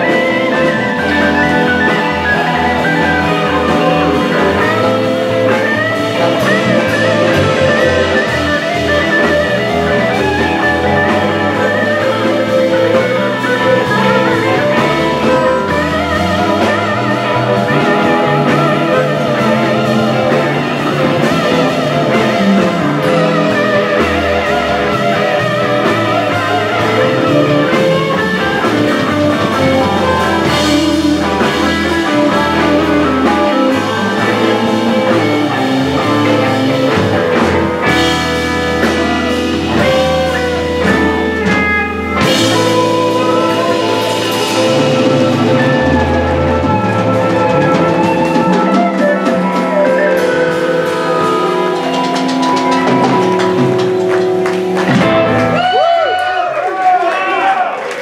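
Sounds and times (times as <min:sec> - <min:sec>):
electric blues band playing: 0:00.0 - 0:58.0
electric guitars: 0:00.0 - 0:58.0.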